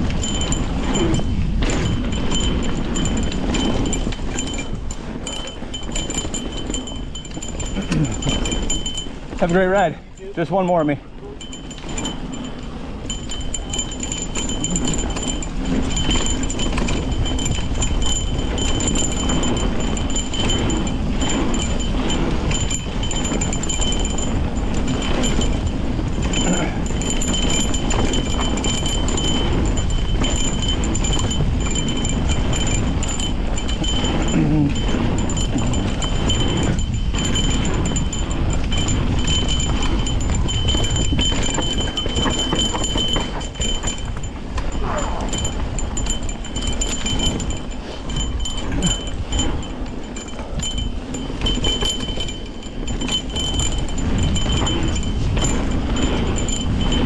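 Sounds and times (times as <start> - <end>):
bicycle suspension working: 0.0 - 57.0
light metallic rattling: 0.0 - 57.0
tyres rushing on dirt: 0.0 - 57.0
wind: 0.0 - 57.0.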